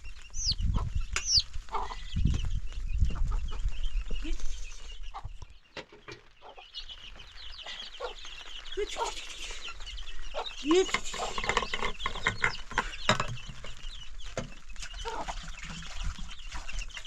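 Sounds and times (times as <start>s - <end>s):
bird calls and chirps: 0.0s - 17.0s.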